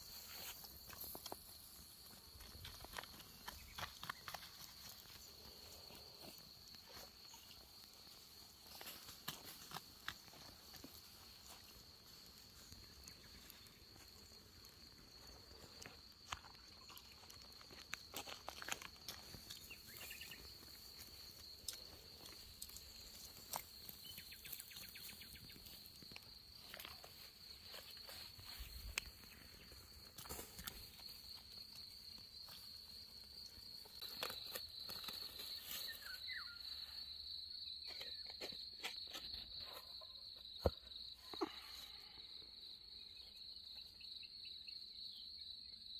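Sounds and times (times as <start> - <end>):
cricket trilling: 0.0 - 45.9.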